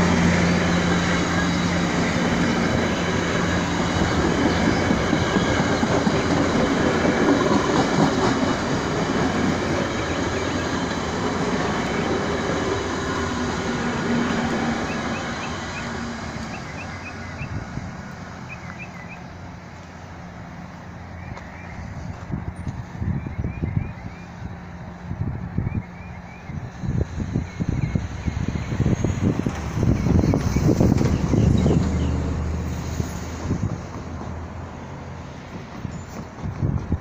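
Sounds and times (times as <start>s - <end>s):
train rolling past on rails: 0.0s - 37.0s.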